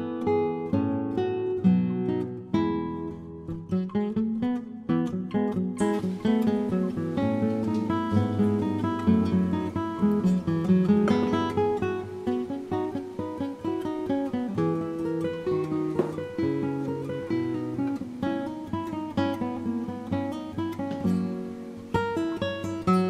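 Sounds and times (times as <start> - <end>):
acoustic guitar piece: 0.0 - 23.0.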